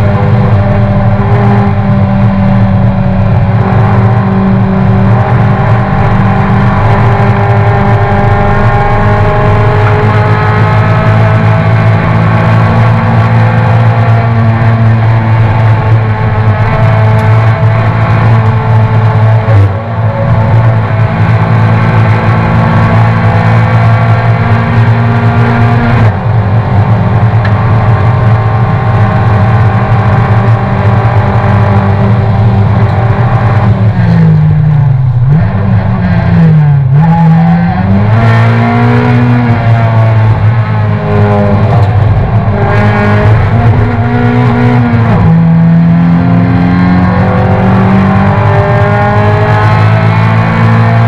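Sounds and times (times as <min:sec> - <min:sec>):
race car engine at high revs: 0:00.0 - 0:51.0.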